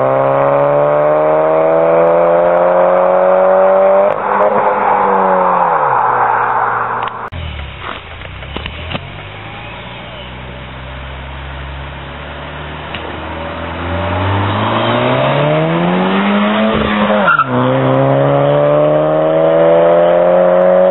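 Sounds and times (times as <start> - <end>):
car engine and exhaust accelerating: 0.0 - 20.9.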